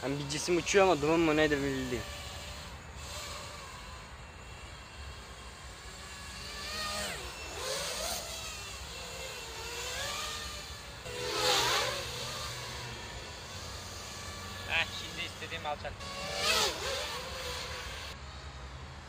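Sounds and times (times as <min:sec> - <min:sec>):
quadcopter propellers whining: 0:00.0 - 0:18.4.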